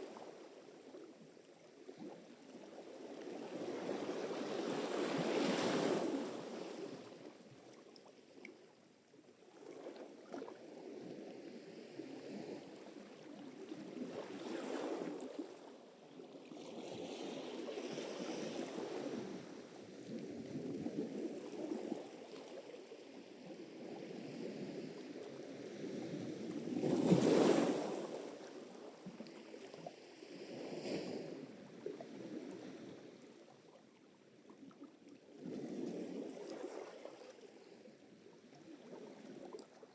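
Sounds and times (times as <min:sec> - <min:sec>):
waves breaking and washing in: 0:02.6 - 0:07.4, 0:10.9 - 0:33.7, 0:35.3 - 0:39.7.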